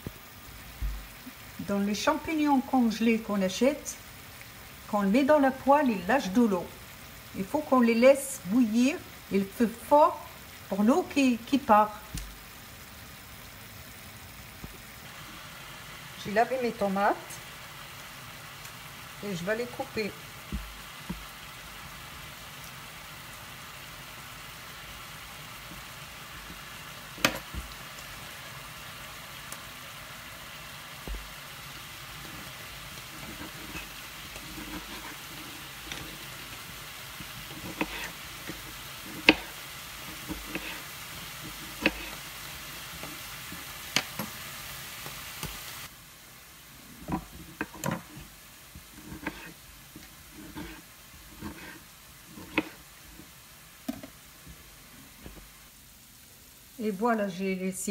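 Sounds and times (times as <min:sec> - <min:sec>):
mushrooms sizzling in a pan: 0:00.0 - 0:57.9.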